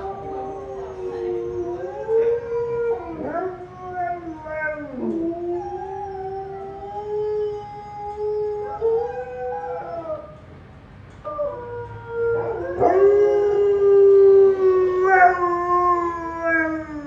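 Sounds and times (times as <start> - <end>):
dog howling: 0.0 - 10.4, 11.3 - 17.0.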